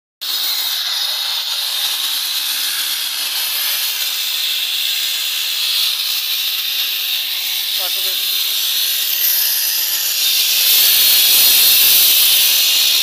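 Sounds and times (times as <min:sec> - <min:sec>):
angle grinder cutting concrete: 0:00.2 - 0:13.0.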